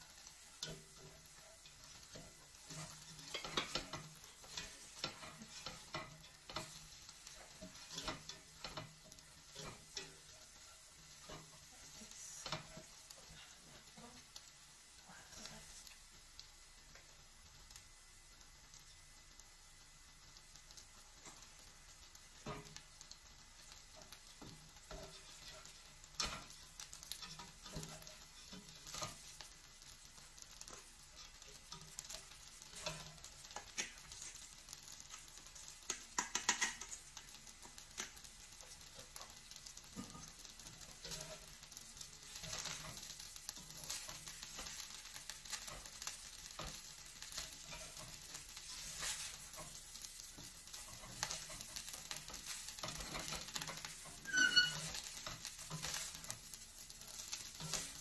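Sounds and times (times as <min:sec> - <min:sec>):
spatula scraping and tapping metal: 0:00.0 - 0:14.5, 0:20.6 - 0:58.0
rice and egg sizzling in a pot: 0:00.0 - 0:58.0.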